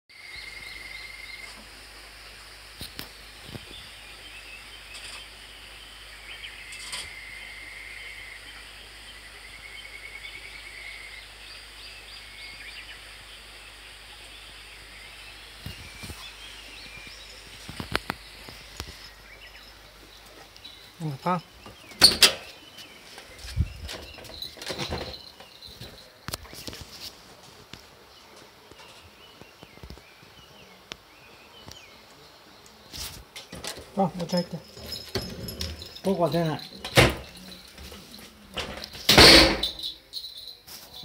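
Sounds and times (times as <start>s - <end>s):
birds chirping and trilling: 2.9s - 26.9s, 28.0s - 41.0s.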